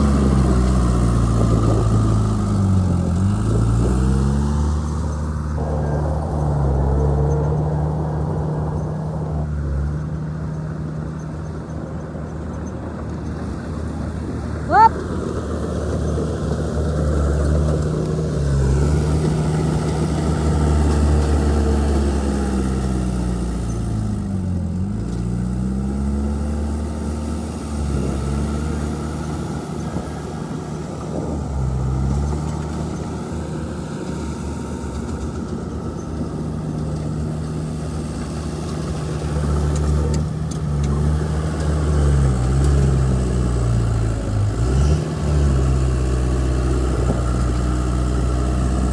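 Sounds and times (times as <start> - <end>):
heavy diesel engine under load: 0.0 - 48.9.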